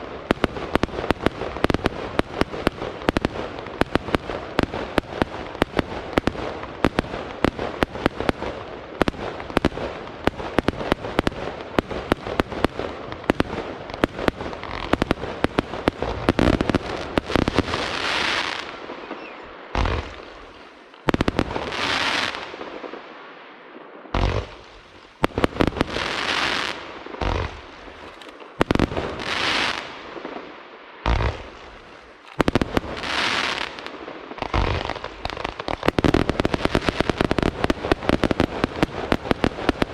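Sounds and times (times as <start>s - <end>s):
rapid firework bangs: 0.0s - 18.8s, 24.1s - 30.1s, 31.0s - 31.8s, 32.4s - 39.9s
deep firework booms: 0.0s - 22.8s, 24.1s - 28.0s, 31.0s - 39.9s.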